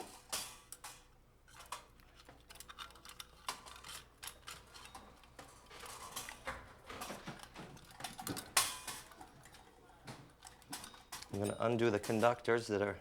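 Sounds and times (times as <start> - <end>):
hand tools clicking on metal: 0.0 - 12.6.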